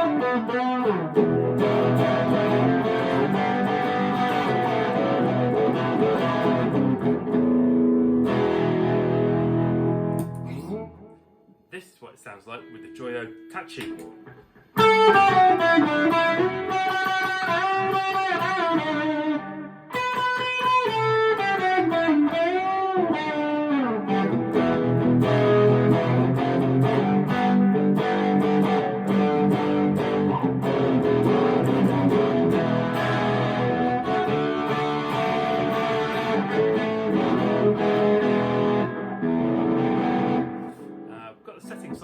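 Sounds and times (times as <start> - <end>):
overdriven electric guitar: 0.0 - 11.4, 12.5 - 42.0.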